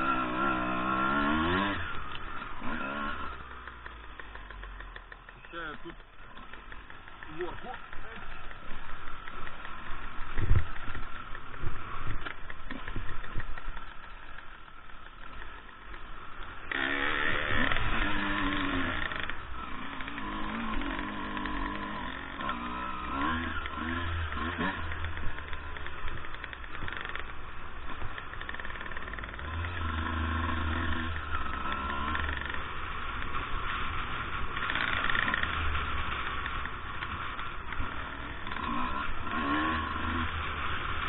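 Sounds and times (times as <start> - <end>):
dirt bike engine: 0.0 - 41.0.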